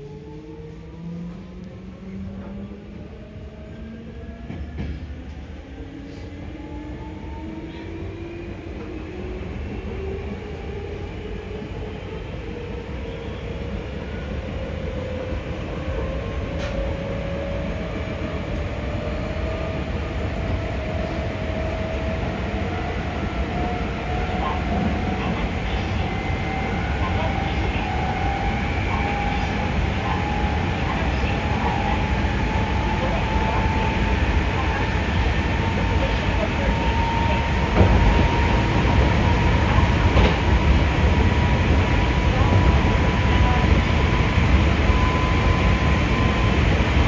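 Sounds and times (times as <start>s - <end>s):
train wheels rumbling on rail: 0.0s - 13.0s, 13.7s - 47.0s.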